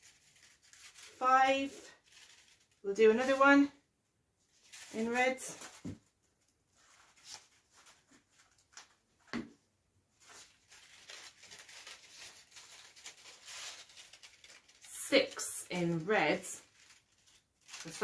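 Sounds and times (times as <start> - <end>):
paper rustling and crinkling: 0.0 - 3.6, 4.4 - 9.5, 10.2 - 18.0.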